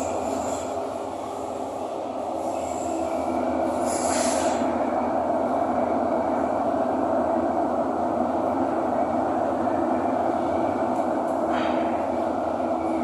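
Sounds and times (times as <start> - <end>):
metro train wheels and motors rumbling: 0.0 - 13.0.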